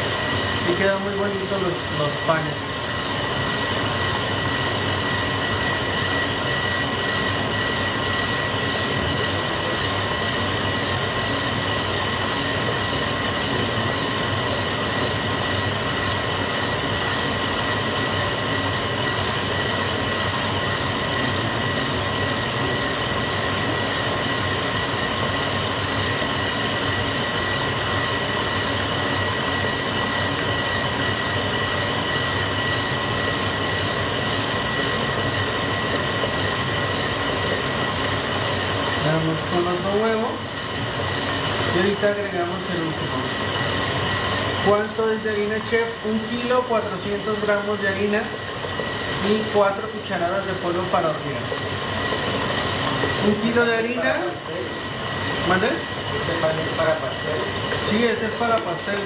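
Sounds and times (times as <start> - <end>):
stand mixer motor whine: 0.0 - 59.0.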